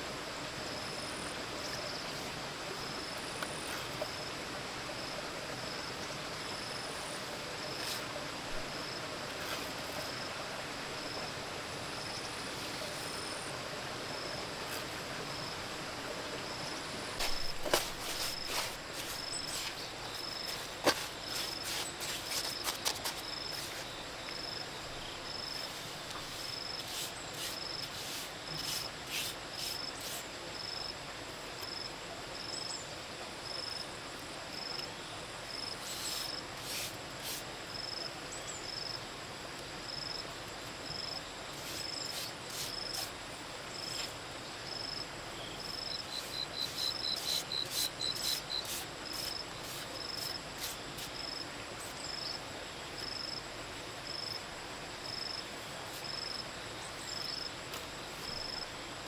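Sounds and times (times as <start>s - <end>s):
insect chirping: 0.1s - 32.8s, 33.4s - 39.2s, 39.8s - 59.0s.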